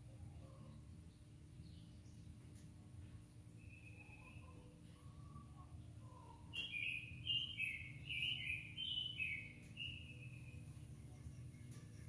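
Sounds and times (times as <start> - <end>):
songbird chirping: 0.0 - 12.0
steady low hum: 0.0 - 12.0.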